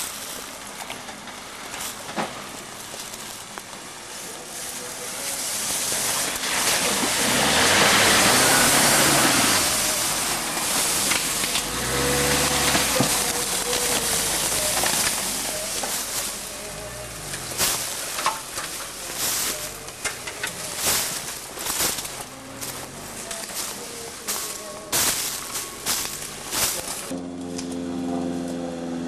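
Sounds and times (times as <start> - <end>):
branches scraping vehicle: 0.0 - 29.0
off-road vehicle engine revving: 4.8 - 29.0.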